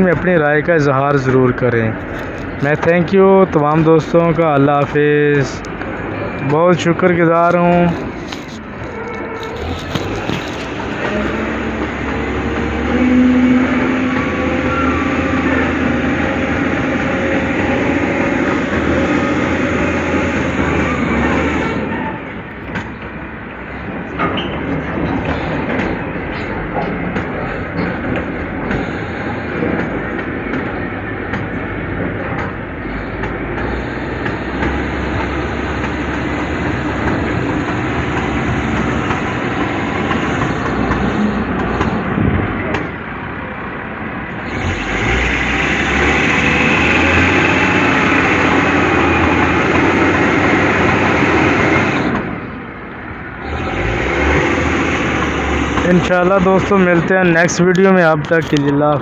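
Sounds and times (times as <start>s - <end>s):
heavy vehicle engine clattering: 0.0s - 59.0s.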